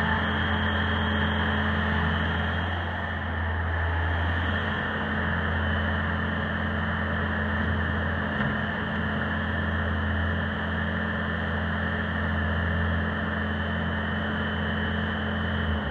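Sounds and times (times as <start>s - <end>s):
diesel engine humming: 0.0s - 15.9s.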